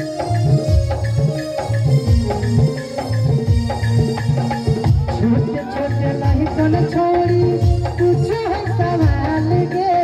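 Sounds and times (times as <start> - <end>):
dholak drum beating: 0.0 - 10.0
electronic keyboard melody: 0.0 - 10.0.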